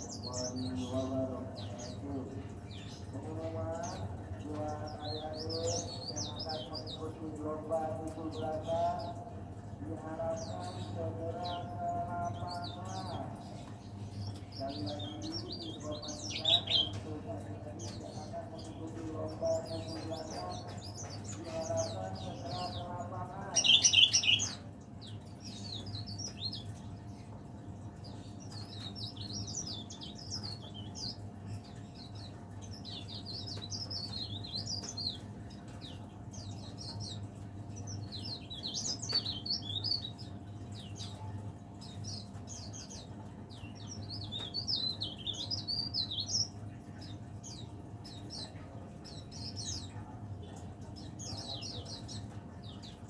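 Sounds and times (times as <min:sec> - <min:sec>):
warbler twittering: 0:00.0 - 0:53.0.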